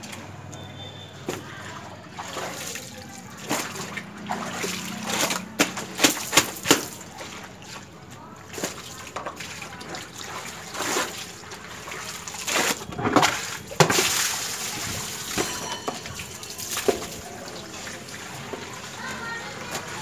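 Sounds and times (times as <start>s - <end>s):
water sloshing and trickling: 0.0s - 20.0s
water splashing onto towel: 1.2s - 20.0s.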